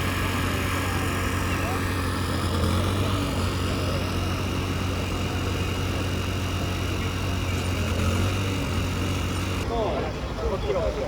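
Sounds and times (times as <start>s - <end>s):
heavy vehicle engine idling: 0.0s - 9.7s.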